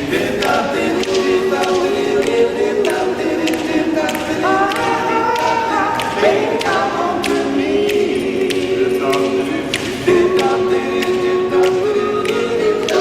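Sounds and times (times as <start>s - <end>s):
vocal group singing in harmony: 0.0s - 13.0s
sharp percussive ticks: 0.1s - 13.0s.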